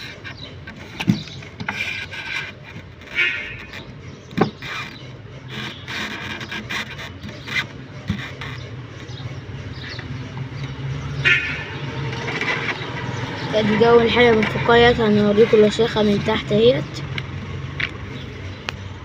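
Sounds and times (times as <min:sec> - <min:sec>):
tools scraping metal casing: 0:00.0 - 0:18.3.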